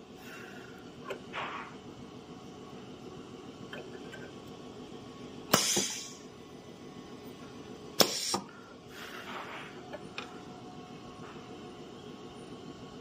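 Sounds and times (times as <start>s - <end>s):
low steady machine hum: 0.0s - 13.0s.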